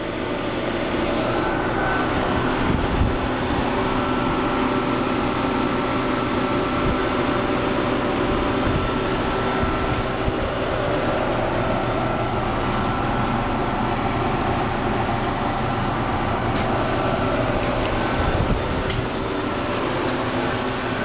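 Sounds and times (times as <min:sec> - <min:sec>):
air conditioner hum: 0:00.0 - 0:21.0.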